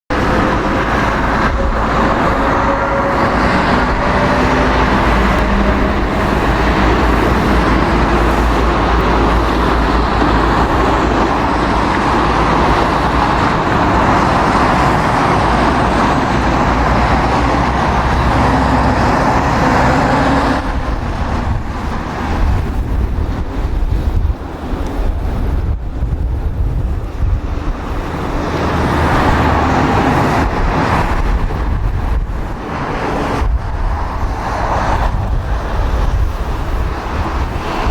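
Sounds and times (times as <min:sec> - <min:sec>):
jet engine noise: 0:00.1 - 0:37.9
wind buffeting microphone: 0:00.1 - 0:37.9.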